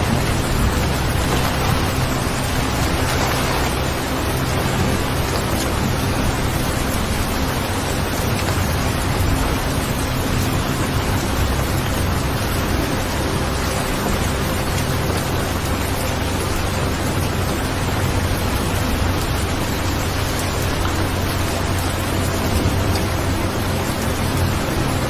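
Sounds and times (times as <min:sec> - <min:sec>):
low rumble: 0:00.0 - 0:25.0
steady rain hiss: 0:00.0 - 0:25.0.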